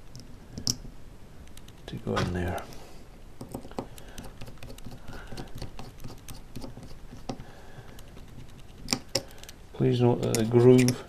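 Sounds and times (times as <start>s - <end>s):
small screws clicking and tapping: 0.1s - 2.0s, 3.4s - 9.6s, 10.2s - 11.0s.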